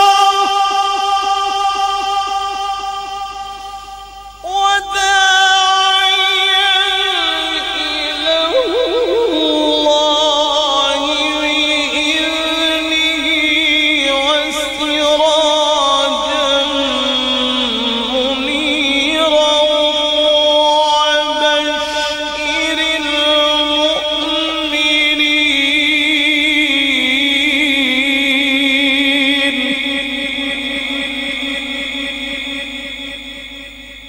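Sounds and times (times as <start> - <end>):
man reciting melodically: 0.0 - 34.0.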